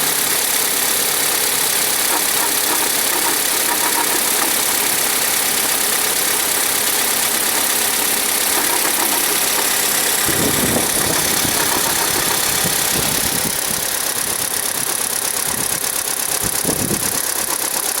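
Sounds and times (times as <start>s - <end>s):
engine idling: 0.0s - 18.0s
fast fine ticking: 0.0s - 18.0s.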